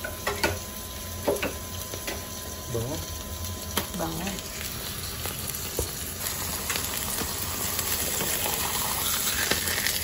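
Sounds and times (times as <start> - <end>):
burger patties sizzling in oil: 0.0 - 10.0.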